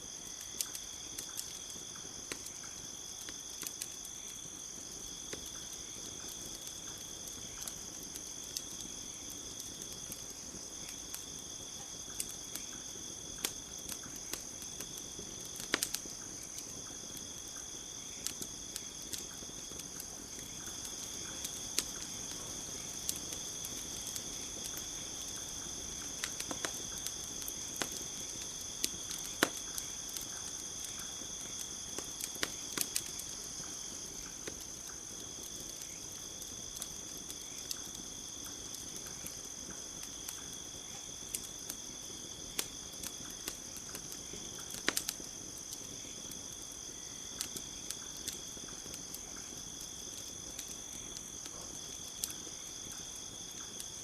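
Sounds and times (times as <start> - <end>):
campfire crackling and popping: 0.0 - 54.0
crickets trilling: 0.0 - 54.0.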